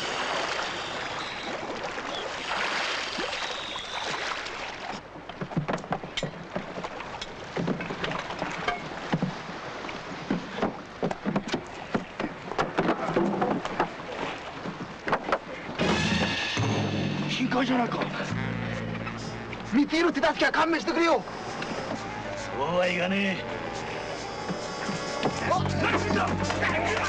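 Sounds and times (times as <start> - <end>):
water splashing and churning: 0.0 - 27.0.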